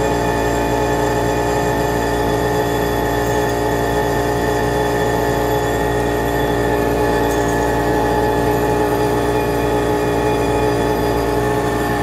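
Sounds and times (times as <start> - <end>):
blower fan running: 0.0 - 12.0
furnace droning: 0.0 - 12.0.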